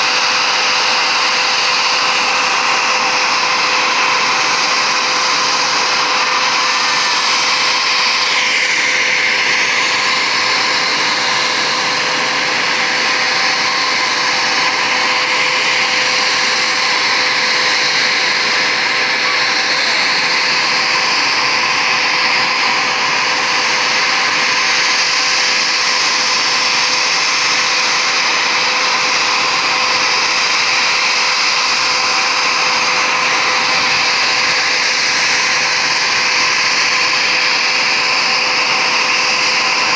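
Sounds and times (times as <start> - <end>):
jet engine whine and rush: 0.0 - 39.9.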